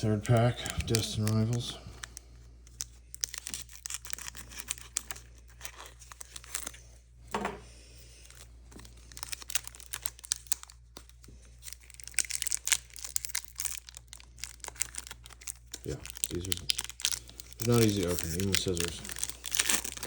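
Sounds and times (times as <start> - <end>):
scissors cutting foil wrapper: 0.0 - 2.1, 2.7 - 6.8, 8.9 - 20.0
foil wrapper crinkling: 0.0 - 7.0, 8.0 - 20.0.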